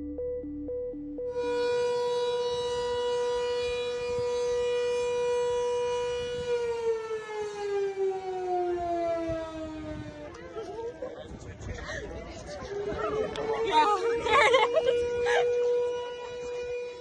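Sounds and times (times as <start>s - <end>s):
warning siren wailing: 0.0s - 10.4s, 12.6s - 17.0s.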